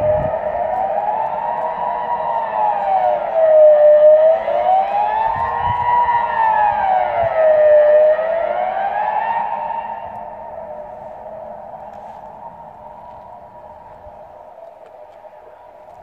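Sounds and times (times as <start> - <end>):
civil defence siren wailing: 0.0 - 16.0.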